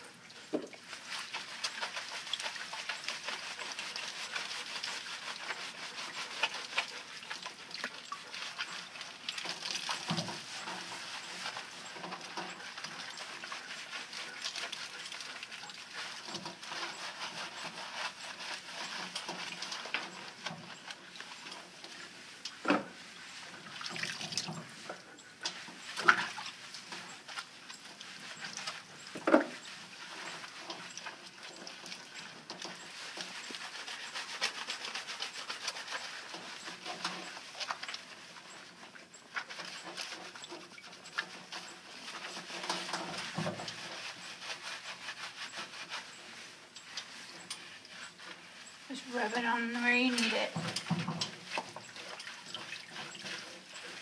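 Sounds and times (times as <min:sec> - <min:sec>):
wet squelching scrubbing of fur: 0:00.8 - 0:24.5, 0:25.5 - 0:54.0.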